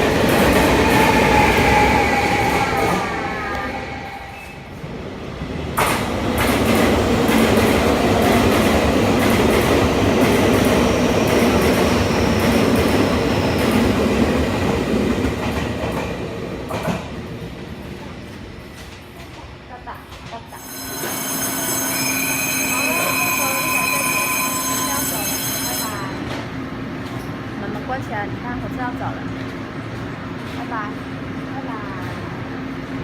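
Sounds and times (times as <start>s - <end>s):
train rumbling on tracks: 0.0s - 33.0s.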